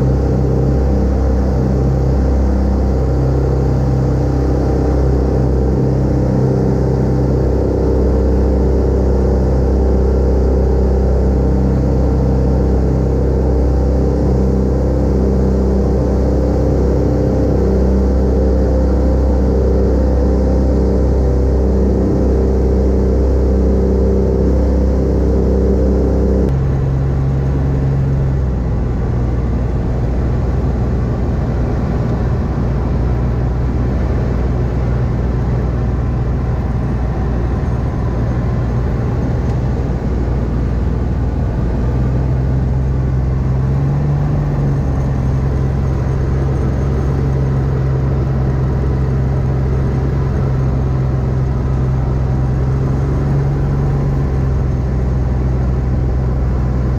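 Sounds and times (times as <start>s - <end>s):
microlight engine and propeller droning: 0.0s - 56.9s.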